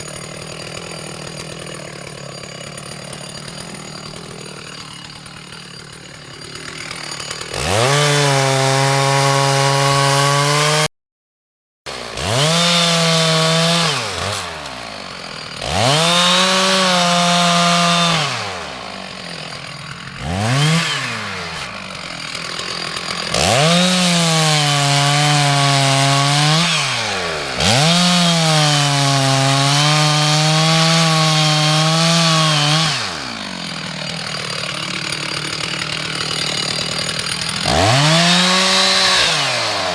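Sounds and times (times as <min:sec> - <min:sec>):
chainsaw revving and cutting wood: 0:00.0 - 0:10.9, 0:11.9 - 0:39.9.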